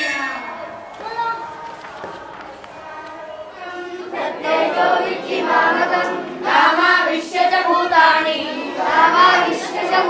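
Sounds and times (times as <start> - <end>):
boys singing in chorus: 0.6 - 10.0.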